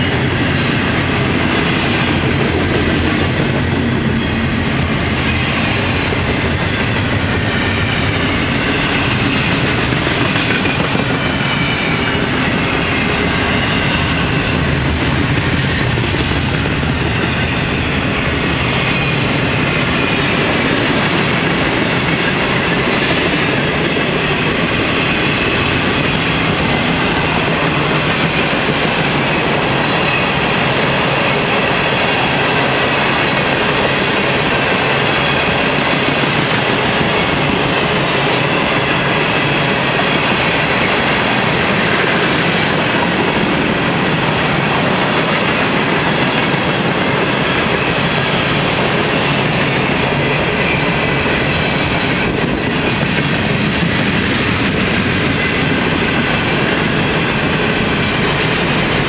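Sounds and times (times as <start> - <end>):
freight train wheels rolling: 0.0 - 59.0.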